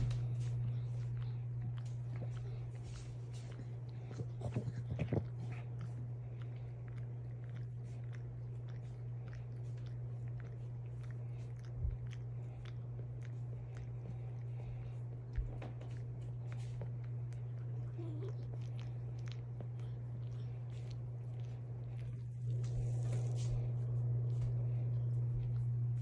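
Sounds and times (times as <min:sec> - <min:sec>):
dog chewing: 0:00.0 - 0:26.0
steady low hum: 0:00.0 - 0:26.0.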